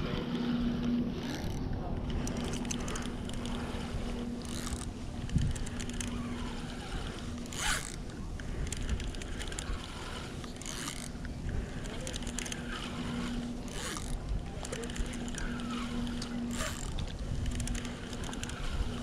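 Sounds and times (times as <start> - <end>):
fishing reel gears whirring: 0.0 - 19.0.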